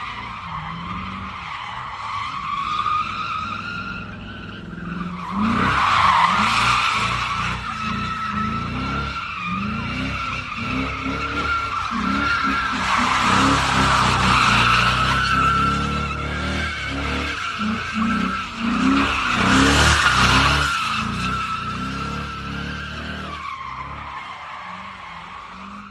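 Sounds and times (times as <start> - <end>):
car tyres squealing: 0.0 - 25.9
car engine revving: 2.5 - 25.9.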